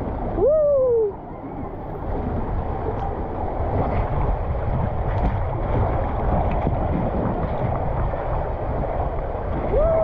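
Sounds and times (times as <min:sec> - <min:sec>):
rider sliding down water slide: 0:00.0 - 0:10.0
water rushing: 0:00.0 - 0:10.0
wind buffeting microphone: 0:00.0 - 0:10.0.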